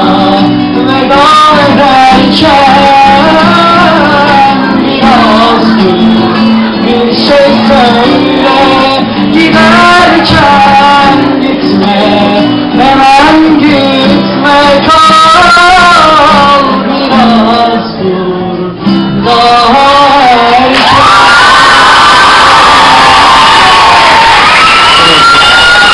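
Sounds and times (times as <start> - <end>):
person singing with accompaniment: 0.0 - 21.2.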